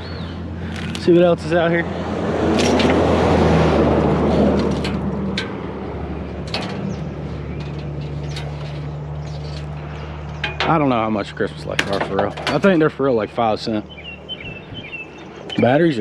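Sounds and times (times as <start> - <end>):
road and wind noise: 0.0 - 16.0
truck engine hum: 0.0 - 16.0.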